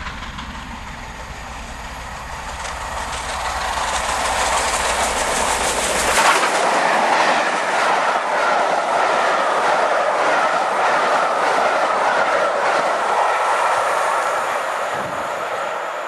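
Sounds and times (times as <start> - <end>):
train coaches rushing past: 0.0 - 16.0.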